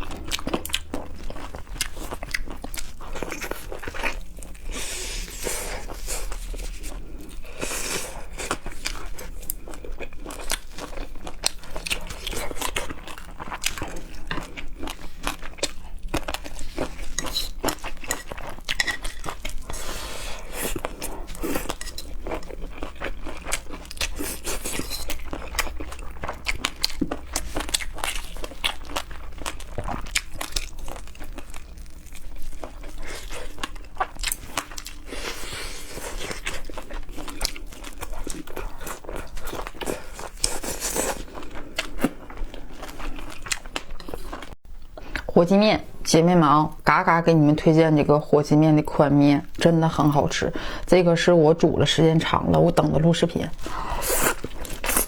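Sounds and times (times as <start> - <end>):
person chewing and crunching: 0.0 - 45.3, 52.5 - 55.0.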